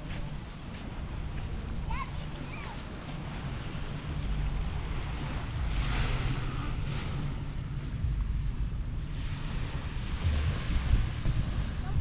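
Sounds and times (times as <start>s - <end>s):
small waves washing onto sand: 0.0s - 12.0s
wind rumble on microphone: 0.0s - 12.0s.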